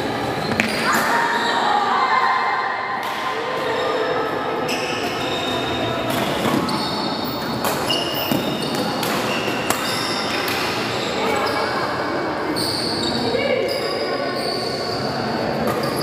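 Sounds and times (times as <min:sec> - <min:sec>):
background hubbub in echoing hall: 0:00.0 - 0:16.0
shoe squeaks: 0:00.4 - 0:01.7, 0:03.7 - 0:11.9, 0:12.5 - 0:16.0.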